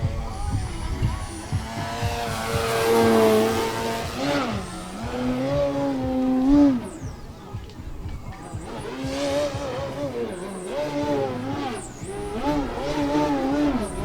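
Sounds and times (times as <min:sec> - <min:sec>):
model plane electric motor hum: 0:00.0 - 0:14.0.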